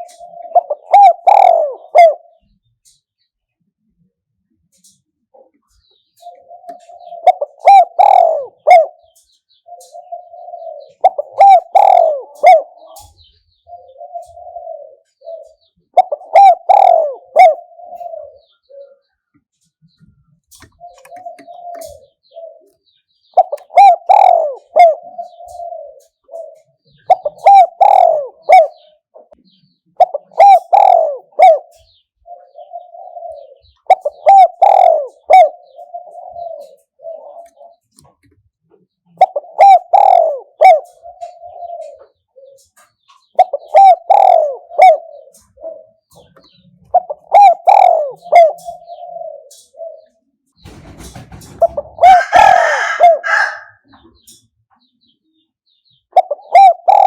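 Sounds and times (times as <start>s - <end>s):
dove cooing: 0.0s - 3.0s, 3.8s - 57.0s.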